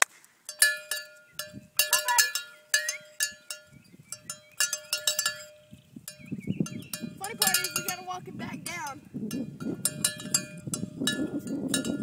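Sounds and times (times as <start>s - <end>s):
cowbell clanking: 0.5s - 12.0s.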